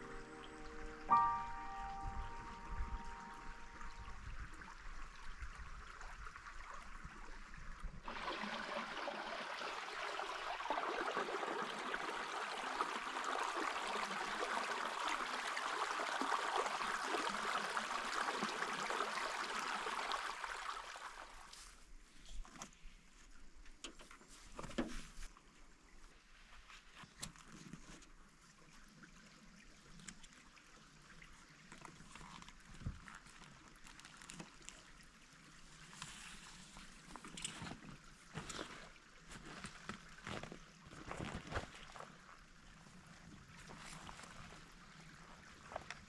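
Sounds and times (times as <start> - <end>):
stream water running: 0.0 - 46.0.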